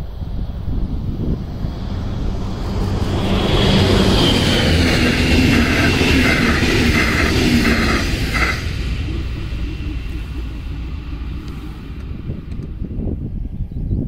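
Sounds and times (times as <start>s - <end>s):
train wheels on rails: 0.0s - 13.5s
diesel locomotive engine running: 0.0s - 14.0s.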